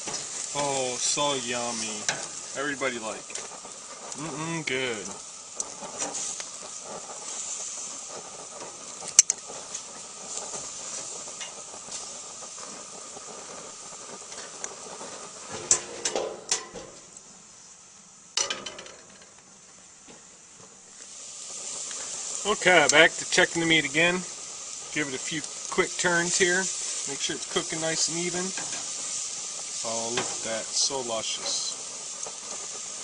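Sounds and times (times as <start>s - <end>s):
steaks sizzling on grill: 0.0s - 33.0s.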